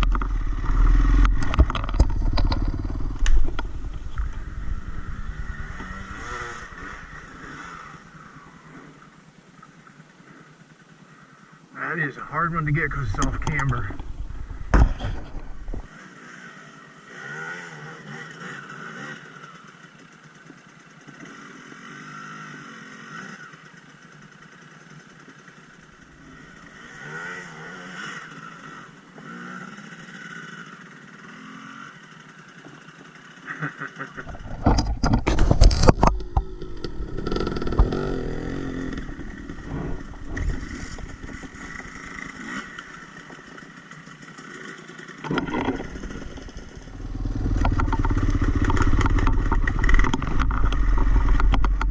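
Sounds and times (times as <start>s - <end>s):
dirt bike engine revving: 0.0s - 9.4s, 10.3s - 51.9s.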